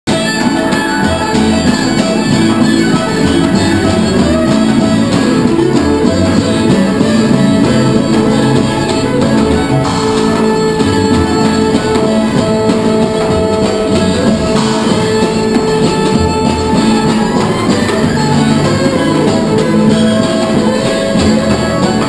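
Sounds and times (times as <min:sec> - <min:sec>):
bass line: 0:00.1 - 0:22.0
fiddle playing: 0:00.1 - 0:22.0
plucked strings: 0:00.1 - 0:22.0.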